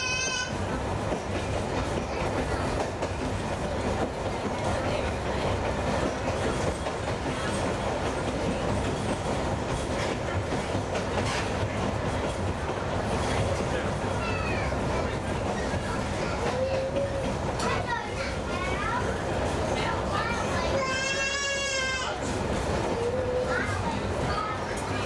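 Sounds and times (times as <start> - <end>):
diesel railcar engine drone: 0.0 - 25.0.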